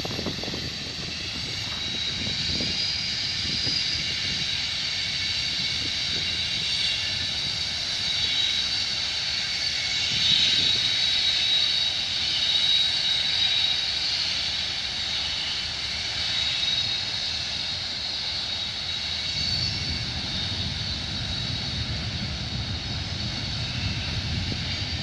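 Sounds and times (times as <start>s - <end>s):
high-pitched whine: 0.0s - 25.0s
train wheels rumbling: 0.0s - 25.0s.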